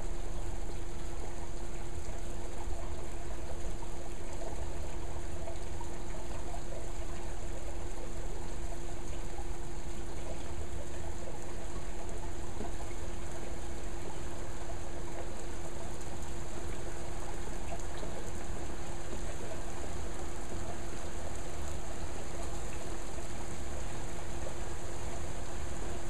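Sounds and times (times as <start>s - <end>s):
steady hum: 0.0s - 26.0s
trickling water: 0.0s - 26.0s.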